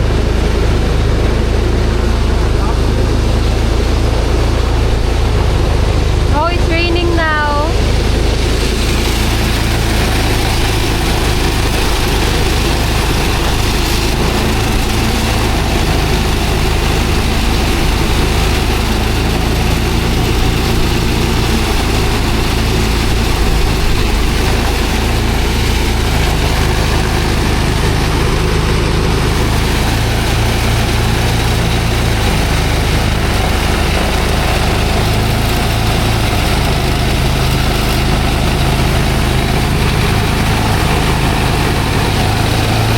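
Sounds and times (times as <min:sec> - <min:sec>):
thresher engine drone: 0:00.0 - 0:42.9.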